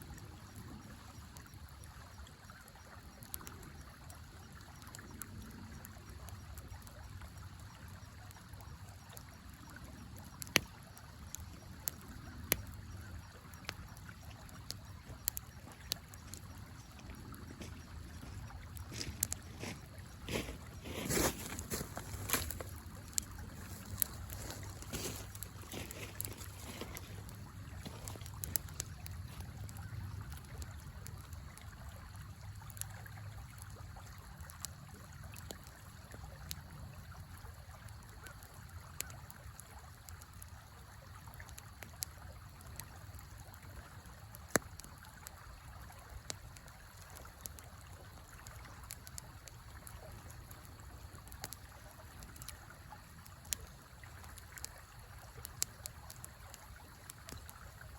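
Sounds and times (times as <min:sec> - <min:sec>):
wood fire crackling and popping: 0:00.2 - 0:57.9.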